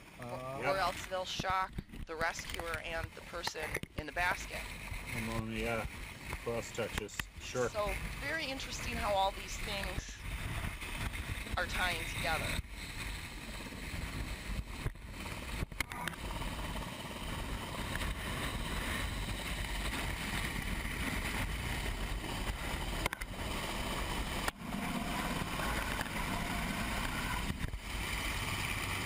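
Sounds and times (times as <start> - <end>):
helicopter rotor downwash rushing: 0.0 - 29.0
wind: 0.0 - 29.0.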